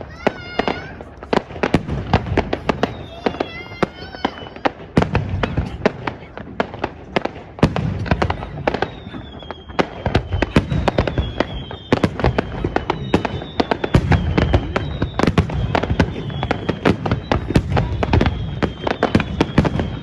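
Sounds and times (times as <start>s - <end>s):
fireworks booms: 0.0s - 20.0s
fireworks crackling pops: 0.0s - 20.0s.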